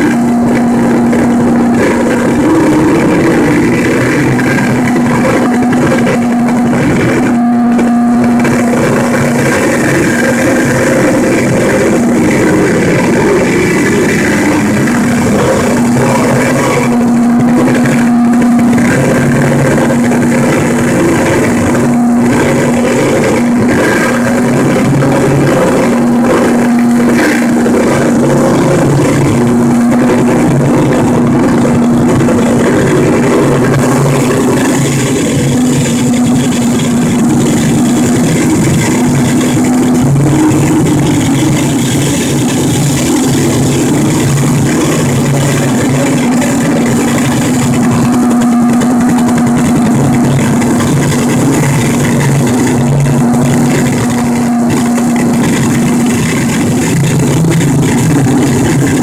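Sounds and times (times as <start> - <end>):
distorted guitar noise music: 0.0 - 59.0
low droning tone: 0.0 - 59.0.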